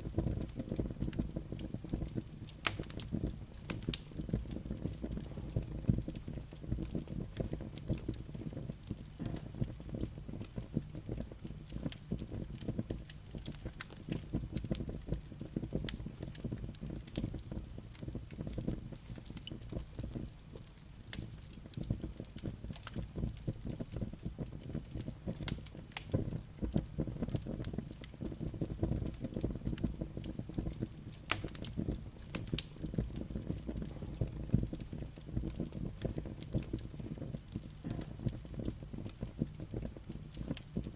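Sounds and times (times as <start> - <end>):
embers popping and snapping: 0.0 - 40.9
fire crackling on logs: 0.0 - 40.9.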